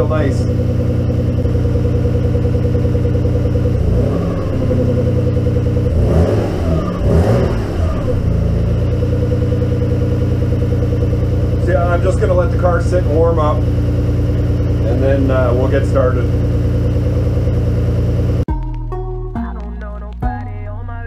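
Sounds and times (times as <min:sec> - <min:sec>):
car engine idling and revving: 0:00.0 - 0:18.8.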